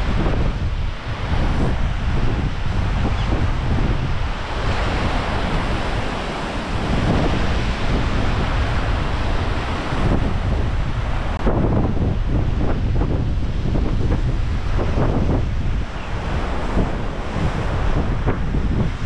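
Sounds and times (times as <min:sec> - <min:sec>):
waves breaking on shore: 0:00.0 - 0:19.0
wind buffeting microphone: 0:00.0 - 0:19.0.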